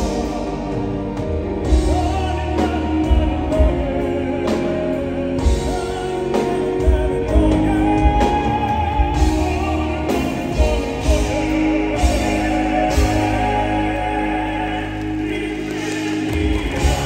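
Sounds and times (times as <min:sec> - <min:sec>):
keyboards: 0:00.0 - 0:17.0
male vocal quartet singing: 0:00.0 - 0:17.0.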